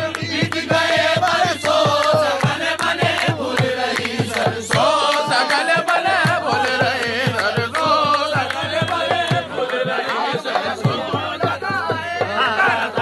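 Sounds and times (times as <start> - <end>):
group singing: 0.0 - 13.0.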